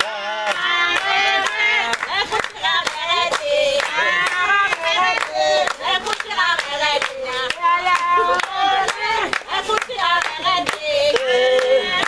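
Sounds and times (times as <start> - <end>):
rhythmic hand clapping: 0.0 - 12.0
voices singing together: 0.0 - 12.0.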